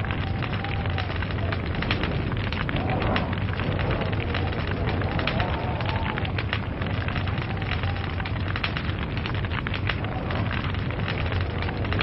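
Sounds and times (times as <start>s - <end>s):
low rumble of burning: 0.0s - 12.0s
wood fire crackling: 0.0s - 12.0s.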